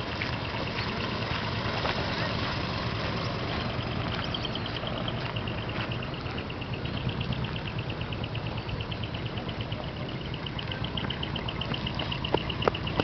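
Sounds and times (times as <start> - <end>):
truck diesel engines rumbling: 0.0 - 13.0
rapid high-pitched chirping: 2.2 - 13.0.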